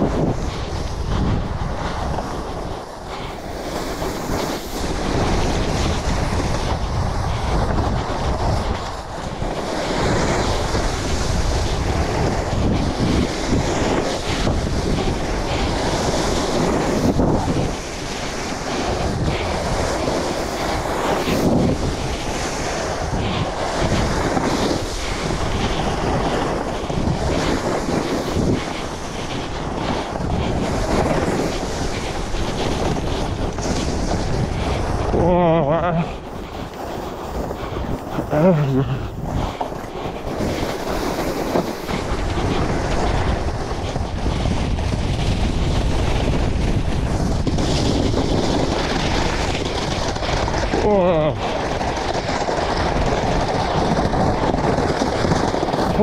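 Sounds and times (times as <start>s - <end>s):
snowboard sliding over snow: 0.0s - 56.0s
wind buffeting microphone: 0.0s - 56.0s.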